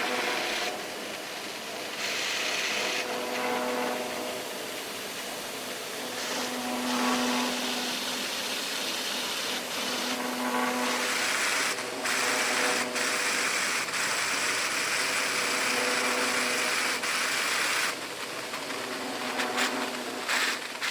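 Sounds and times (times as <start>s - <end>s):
dense mechanical hiss: 0.0s - 20.9s
textile machinery humming: 0.0s - 20.9s.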